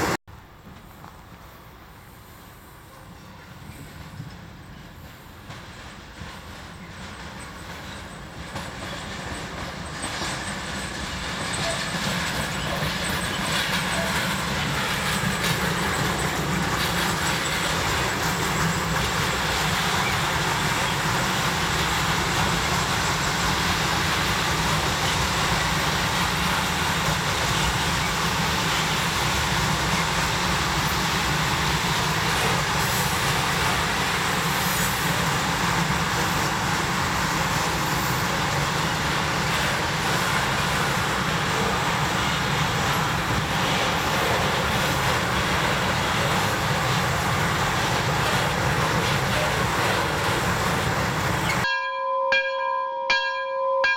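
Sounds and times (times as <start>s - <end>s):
freight train passing: 0.0s - 51.8s.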